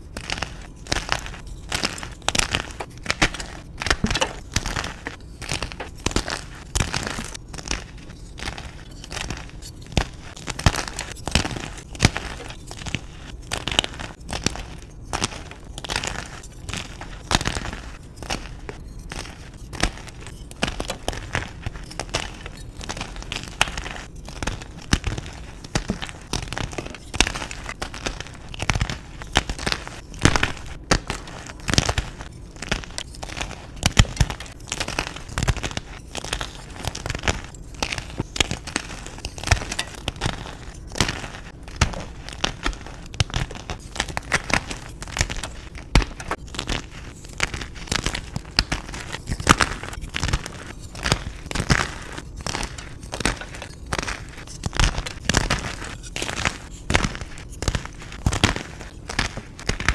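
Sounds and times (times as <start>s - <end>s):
chalk crunching and crackling: 0.0s - 59.9s.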